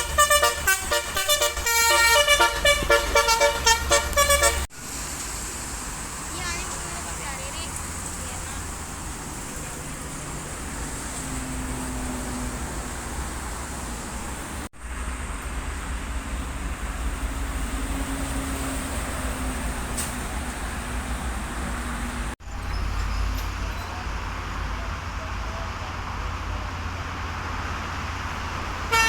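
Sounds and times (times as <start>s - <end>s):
bus engine rumbling: 0.0s - 29.0s
traffic noise: 0.0s - 29.0s.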